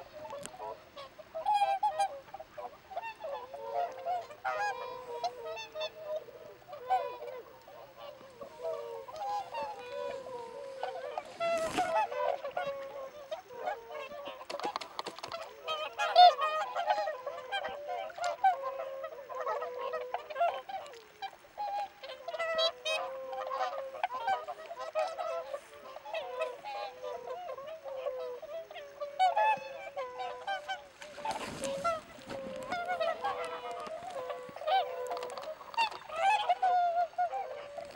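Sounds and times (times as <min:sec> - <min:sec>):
swans honking: 0:00.0 - 0:37.9.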